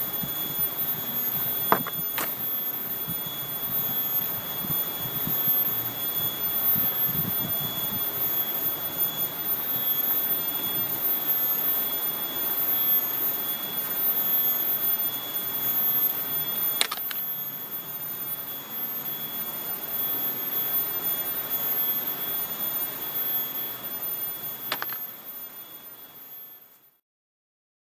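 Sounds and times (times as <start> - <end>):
cicadas droning: 0.0 - 26.9.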